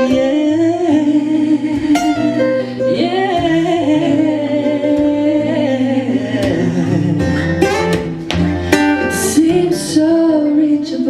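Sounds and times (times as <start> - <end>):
musical accompaniment: 0.0 - 11.0
woman singing: 0.0 - 11.0.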